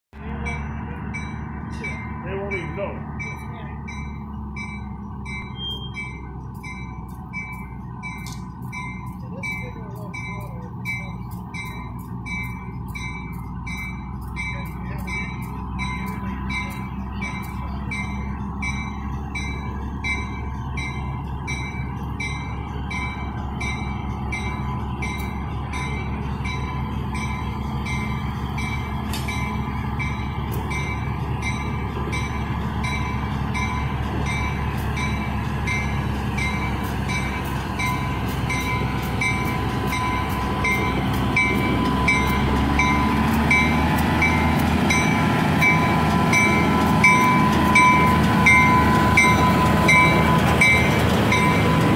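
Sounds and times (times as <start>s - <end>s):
diesel locomotive engine drone: 0.1s - 51.9s
locomotive rolling on track: 0.1s - 51.9s
bell ringing: 0.2s - 51.9s.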